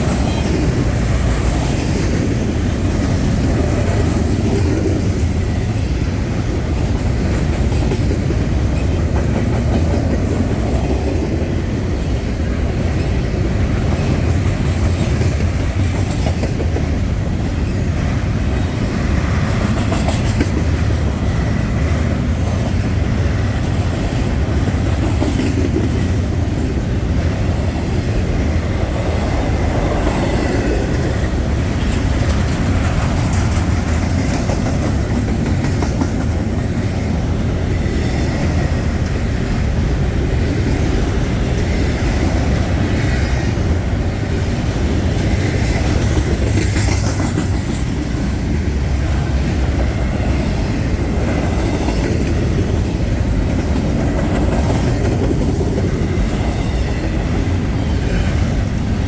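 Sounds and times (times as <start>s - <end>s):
freight train wheels rumbling: 0.0s - 59.0s
wheels clicking over rail joints: 0.0s - 59.0s.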